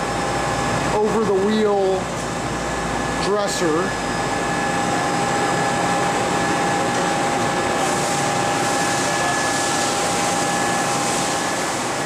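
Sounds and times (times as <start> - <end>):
machinery and ventilation hum: 0.0 - 12.0
steady whine: 0.0 - 12.0.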